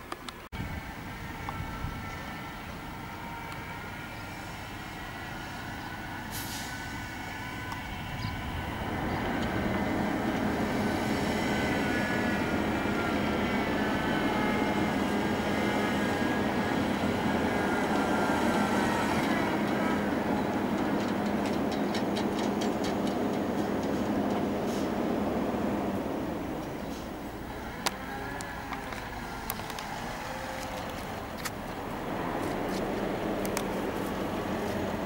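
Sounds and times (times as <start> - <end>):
diesel truck engine droning: 0.5 - 35.0.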